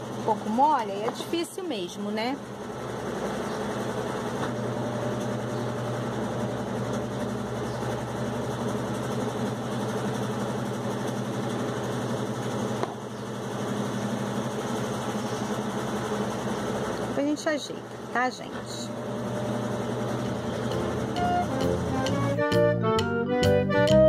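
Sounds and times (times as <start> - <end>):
machine hum with low buzz: 0.0 - 24.0.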